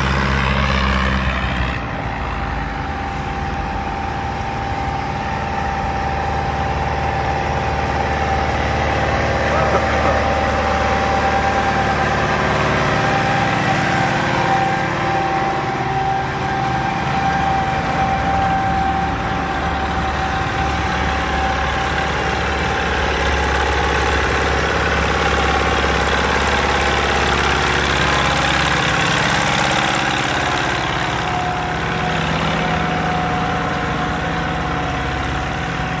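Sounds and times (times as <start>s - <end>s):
diesel tractor engines running: 0.0s - 36.0s.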